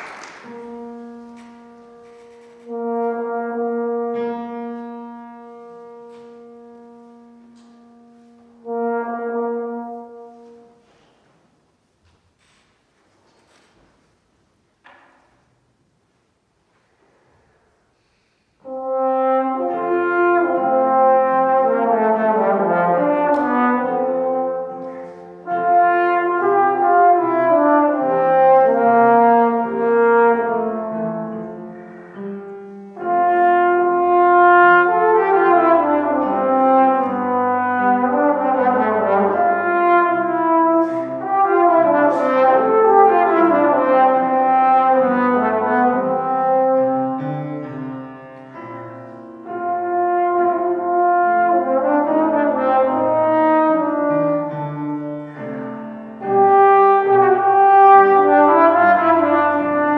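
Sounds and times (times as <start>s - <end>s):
slide trombone playing classical melody: 0.0s - 11.2s, 18.6s - 59.9s
piano accompaniment: 0.0s - 11.9s, 18.6s - 59.9s.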